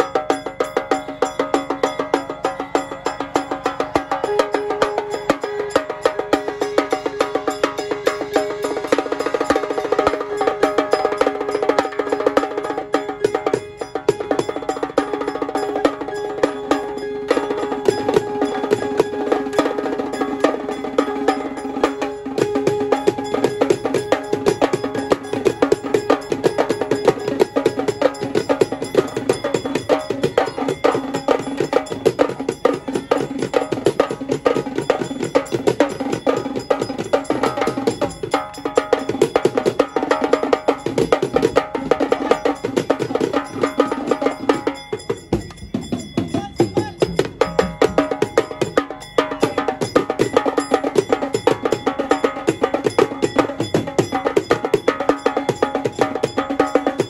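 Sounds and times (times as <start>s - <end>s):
drummers playing tom drums: 0.0s - 57.0s
held melody note: 0.0s - 57.0s.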